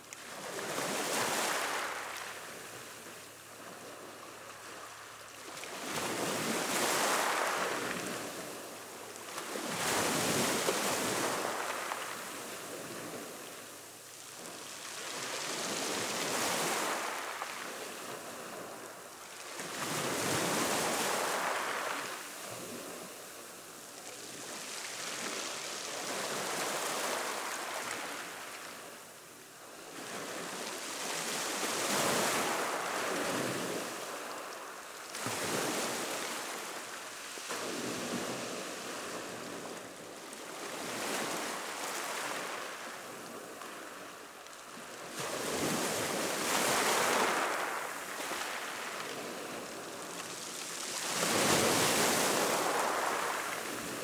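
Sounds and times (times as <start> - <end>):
waves washing onto shore: 0.0 - 54.0.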